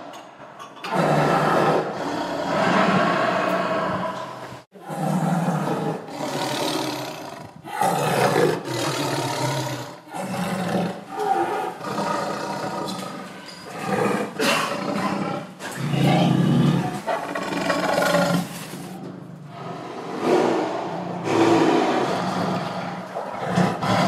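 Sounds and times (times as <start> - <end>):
big cat roaring: 0.8 - 24.0.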